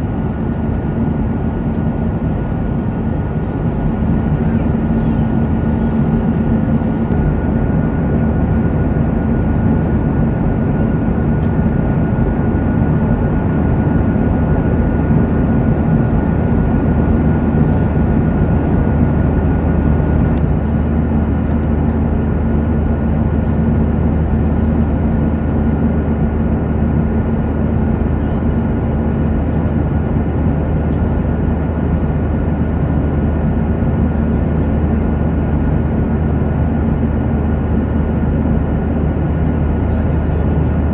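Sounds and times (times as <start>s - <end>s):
airliner engines roaring: 0.0s - 40.9s.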